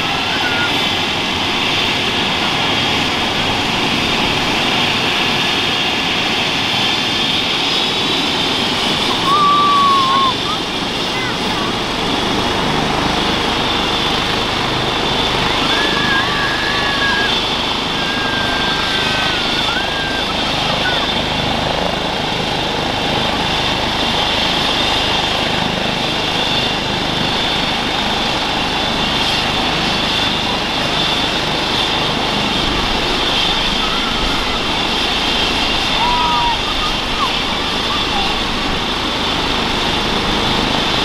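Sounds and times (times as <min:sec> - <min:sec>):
helicopter rotor noise: 0:00.0 - 0:41.0
helicopter turbine whine: 0:00.0 - 0:41.0.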